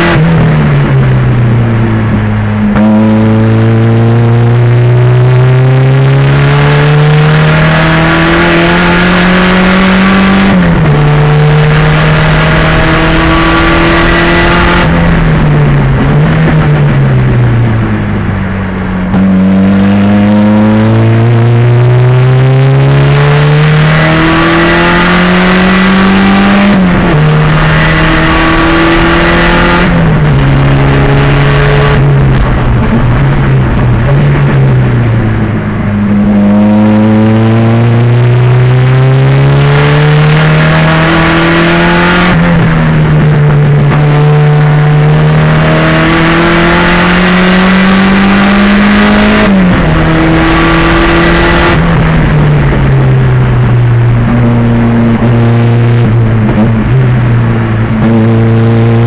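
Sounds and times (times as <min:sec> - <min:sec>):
turbocharged car engine racing: 0:00.0 - 0:59.0.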